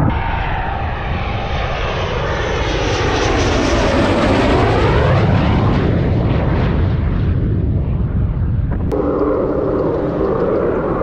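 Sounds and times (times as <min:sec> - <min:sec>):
fighter jet engine roar: 0:00.0 - 0:11.0.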